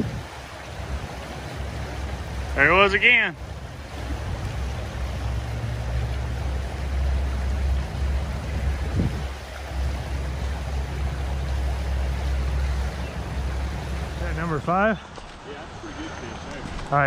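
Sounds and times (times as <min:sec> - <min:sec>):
rushing creek water: 0:00.0 - 0:17.0.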